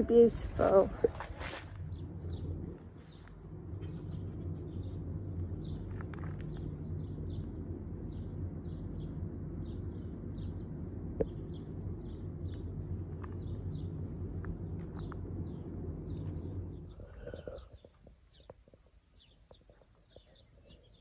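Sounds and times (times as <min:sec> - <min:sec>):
songbird chirping: 0:00.0 - 0:21.0
steady low hum: 0:00.0 - 0:21.0.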